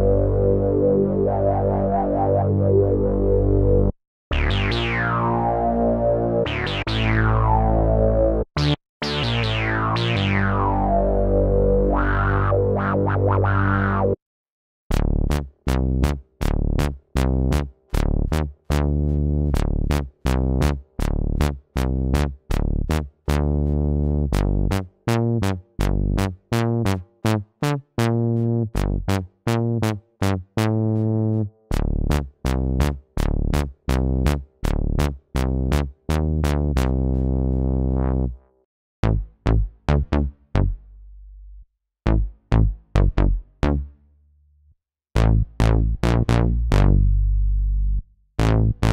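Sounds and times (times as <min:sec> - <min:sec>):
synthesizer bass pattern: 0:00.0 - 0:14.2, 0:14.9 - 0:38.4, 0:39.0 - 0:40.8, 0:42.1 - 0:43.9, 0:45.2 - 0:48.9.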